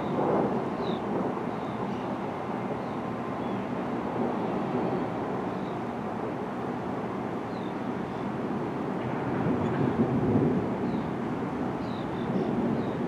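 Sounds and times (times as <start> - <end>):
distant rolling thunder: 0.0 - 6.5, 8.6 - 13.0.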